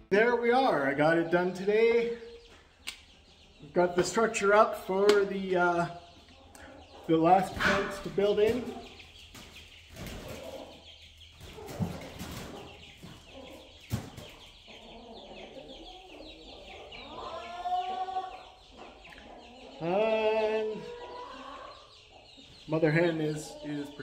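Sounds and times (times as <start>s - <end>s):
hens clucking: 0.2s - 24.0s.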